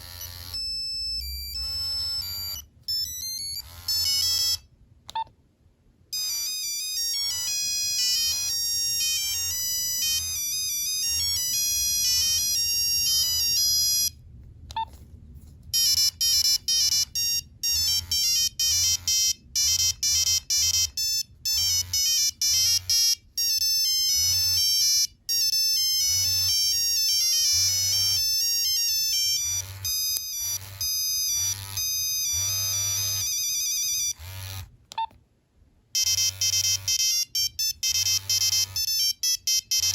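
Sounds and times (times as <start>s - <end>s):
monophonic ringtone beeping: 0.0s - 4.7s, 6.2s - 14.2s, 15.8s - 34.2s, 36.0s - 39.9s.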